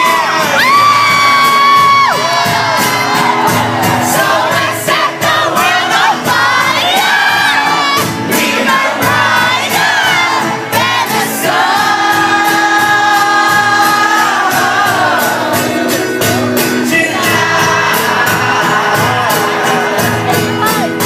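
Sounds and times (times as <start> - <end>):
drum beat: 0.0 - 21.0
live pop band playing: 0.0 - 21.0
person singing: 0.0 - 21.0.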